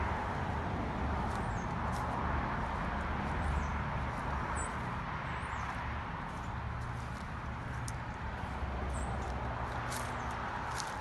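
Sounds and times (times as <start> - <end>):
footsteps on dry leaves: 0.0 - 11.0.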